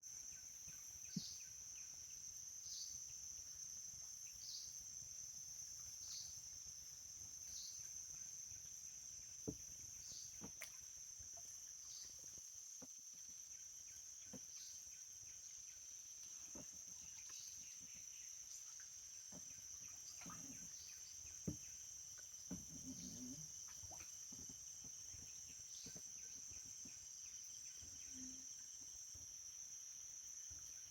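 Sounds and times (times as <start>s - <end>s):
crickets chirping: 0.0s - 30.9s.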